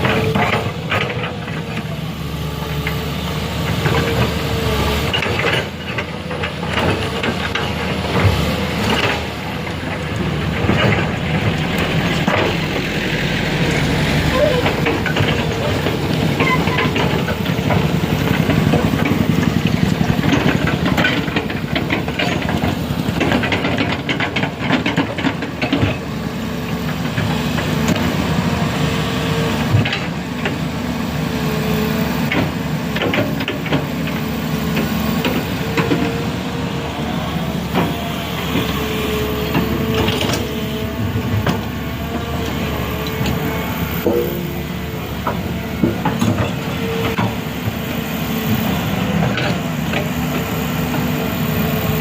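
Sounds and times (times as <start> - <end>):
heavy vehicle engine running: 0.0 - 52.0.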